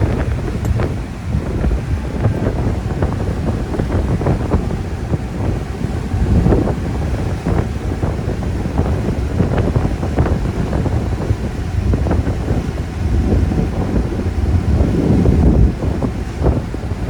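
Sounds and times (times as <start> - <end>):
car running and road noise: 0.0 - 17.0
wind buffeting microphone: 0.0 - 17.0.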